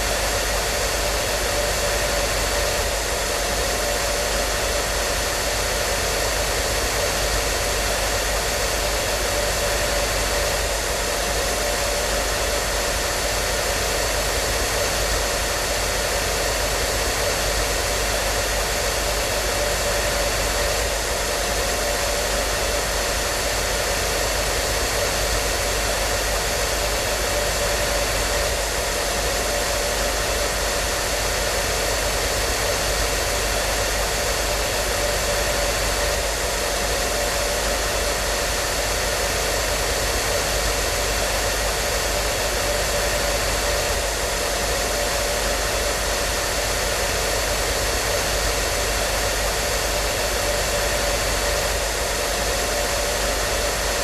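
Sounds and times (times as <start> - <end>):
hair dryer blowing: 0.0 - 54.0
hair dryer motor whine: 0.0 - 54.0.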